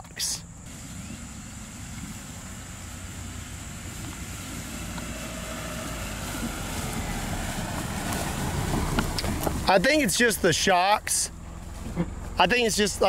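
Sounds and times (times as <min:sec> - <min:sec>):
car engine driving on grass: 0:00.6 - 0:13.0.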